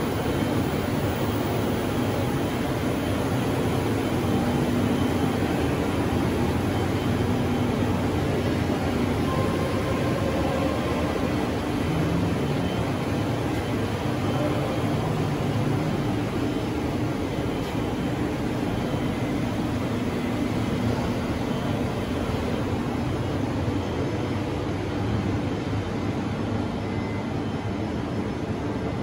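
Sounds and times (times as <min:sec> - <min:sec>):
faint steady tones: 0:00.0 - 0:29.0
ventilation and machinery hum: 0:00.0 - 0:29.0.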